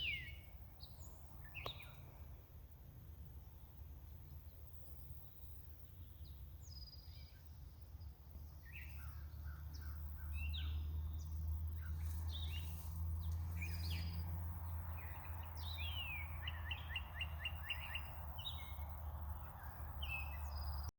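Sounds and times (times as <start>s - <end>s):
songbirds chirping and singing: 0.0s - 2.2s, 5.8s - 20.9s
steady low rumble: 0.0s - 20.9s.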